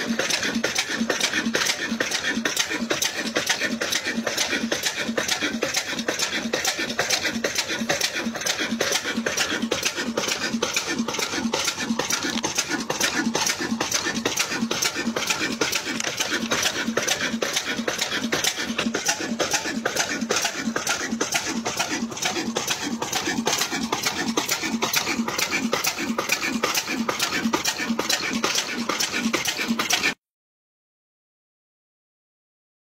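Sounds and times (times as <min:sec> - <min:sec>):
diesel engine chugging: 0:00.0 - 0:30.2.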